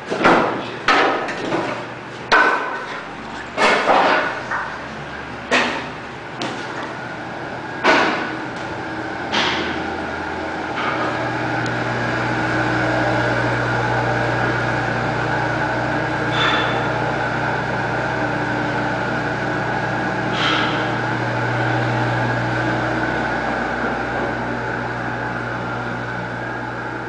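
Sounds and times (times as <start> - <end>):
mechanical hum with whine: 0.0 - 27.0.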